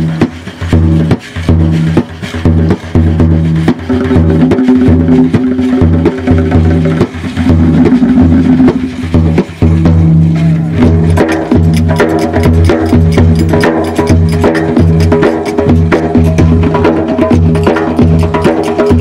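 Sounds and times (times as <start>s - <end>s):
hand drums ensemble: 0.0s - 19.0s.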